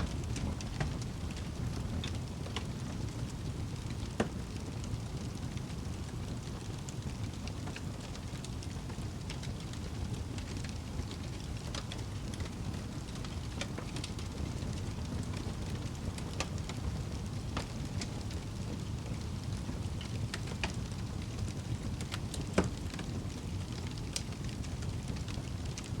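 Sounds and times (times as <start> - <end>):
fire crackling and snapping: 0.0 - 26.0
fire flames rumbling: 0.0 - 26.0.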